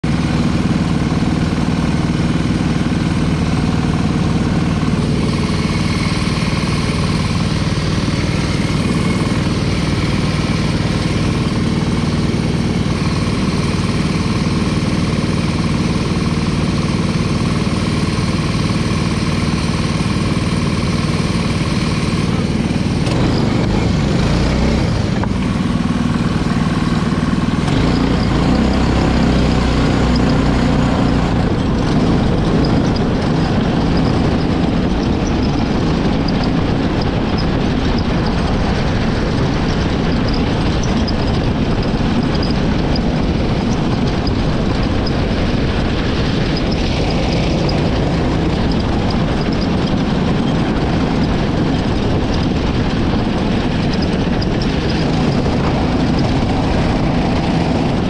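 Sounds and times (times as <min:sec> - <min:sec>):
kart engine running: 0:00.0 - 0:58.0.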